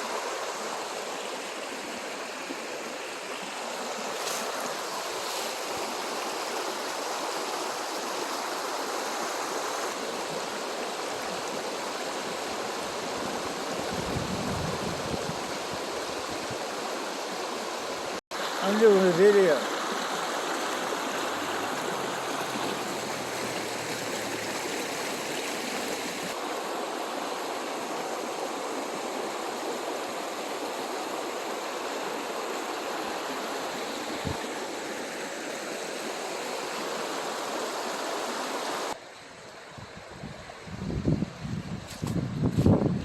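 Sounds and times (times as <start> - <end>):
river water rushing: 0.0 - 40.7.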